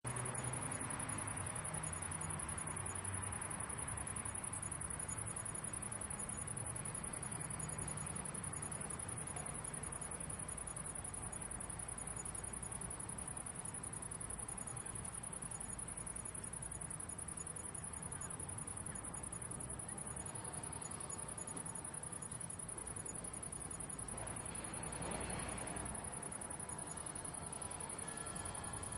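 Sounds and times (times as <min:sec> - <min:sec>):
low city rumble: 0:00.0 - 0:28.9
crickets chirping: 0:00.1 - 0:28.9.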